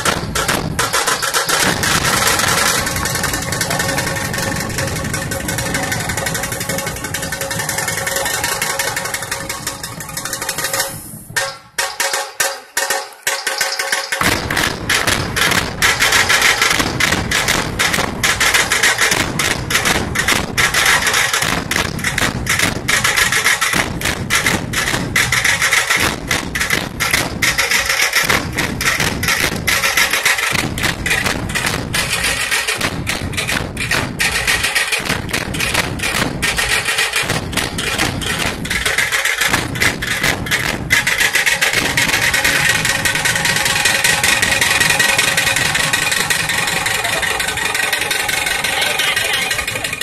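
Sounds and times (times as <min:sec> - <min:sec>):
fast rhythmic drumming: 0:00.0 - 0:50.0.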